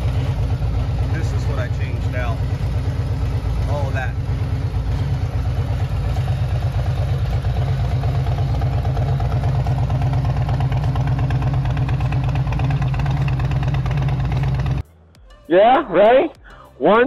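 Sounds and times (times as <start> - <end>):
motorcycle engine idling: 0.0 - 14.8.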